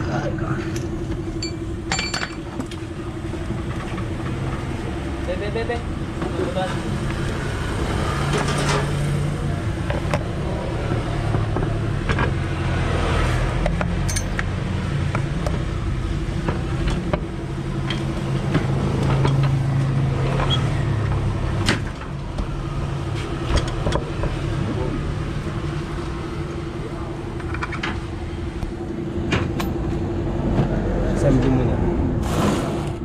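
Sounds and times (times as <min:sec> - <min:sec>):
vehicle engine running: 0:00.0 - 0:32.2.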